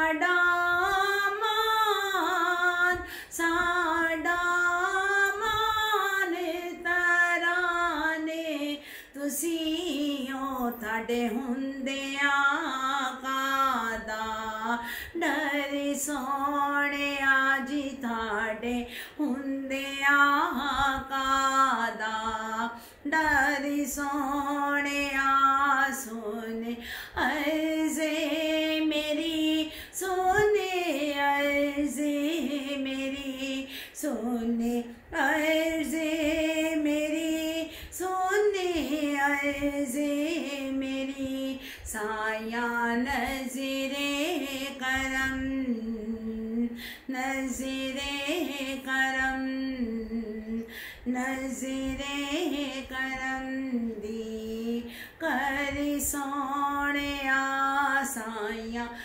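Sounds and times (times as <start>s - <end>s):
woman singing devotional song: 0.0s - 59.0s.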